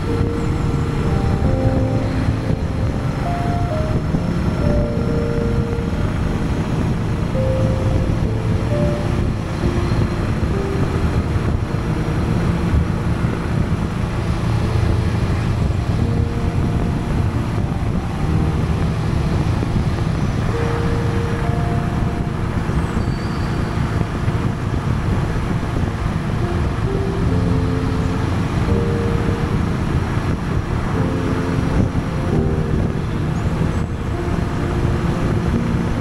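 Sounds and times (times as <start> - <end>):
motorcycle engine drone: 0.0 - 36.0
wind noise: 0.0 - 36.0.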